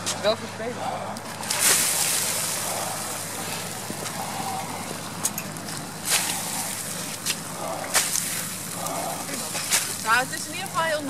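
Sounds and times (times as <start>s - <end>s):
wet burning leaves hissing: 0.1s - 11.0s
sharp crackles: 1.2s - 11.0s.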